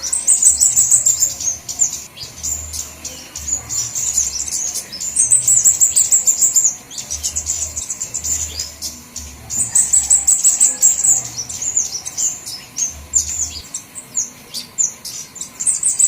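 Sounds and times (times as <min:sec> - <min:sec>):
birds chipping and twittering: 0:00.0 - 0:16.0.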